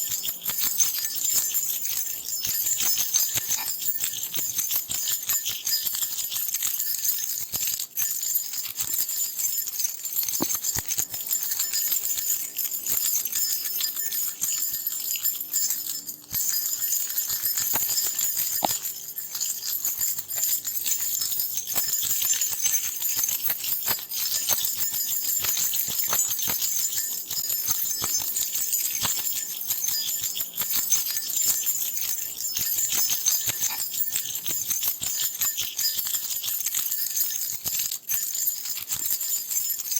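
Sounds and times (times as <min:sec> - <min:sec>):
metal keys jingling: 0:00.0 - 0:39.9.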